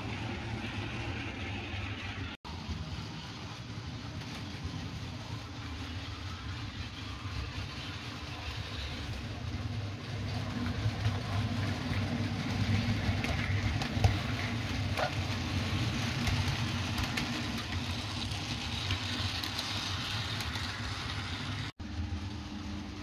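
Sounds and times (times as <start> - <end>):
model train humming: 0.0 - 22.0
wheels clicking on track: 0.1 - 21.7.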